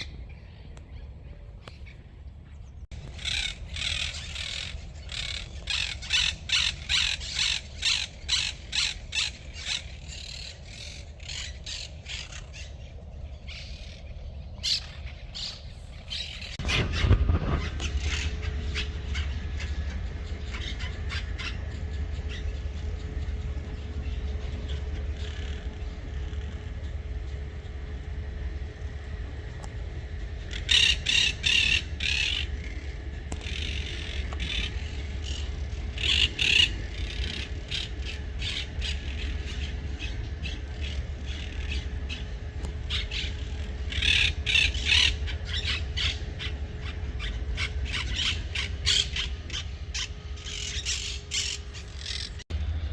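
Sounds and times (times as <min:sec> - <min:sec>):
birds calling: 0:00.0 - 0:52.9.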